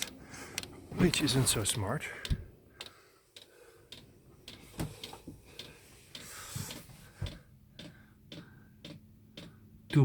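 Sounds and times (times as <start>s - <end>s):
fuel pump ticking: 1.7s - 10.0s.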